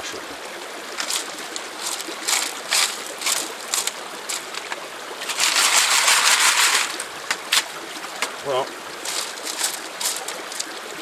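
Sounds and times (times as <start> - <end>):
creek water running: 0.0 - 11.0
water splashing: 0.0 - 11.0.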